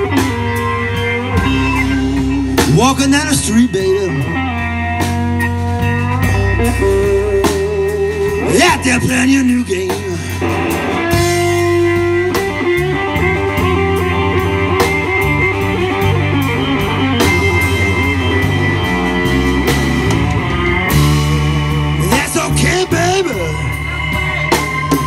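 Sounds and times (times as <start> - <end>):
bass guitar: 0.0 - 25.0
drum kit steady beat: 0.0 - 25.0
electric guitar lead lines: 0.0 - 25.0.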